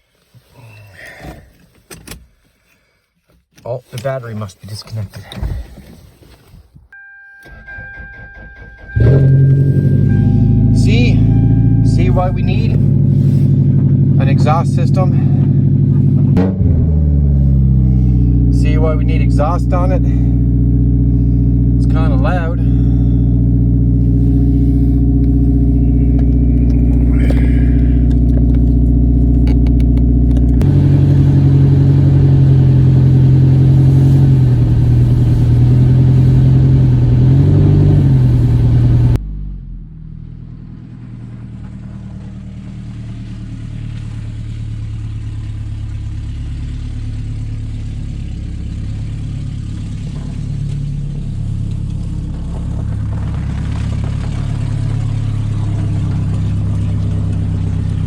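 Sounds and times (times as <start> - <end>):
loud car engine without exhaust: 7.0 - 58.0
quiet engine running steadily: 7.2 - 58.0.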